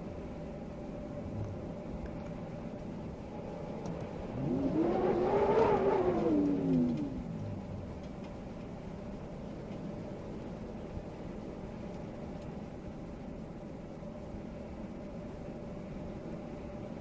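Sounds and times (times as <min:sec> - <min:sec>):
steady wind noise: 0:00.0 - 0:17.0.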